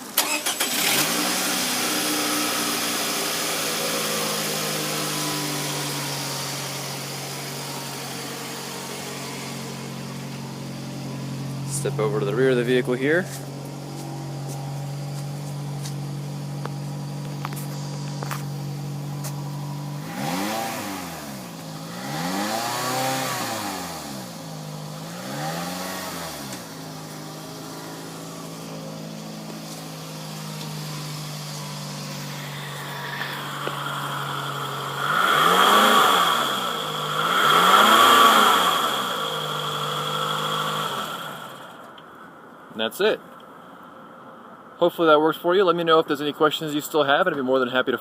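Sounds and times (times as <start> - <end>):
car engine idling and revving: 0.0 - 42.7.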